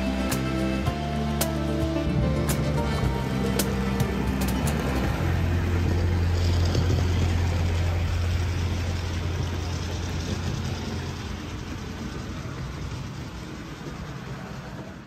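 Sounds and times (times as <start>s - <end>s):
model train humming on track: 0.0s - 15.0s.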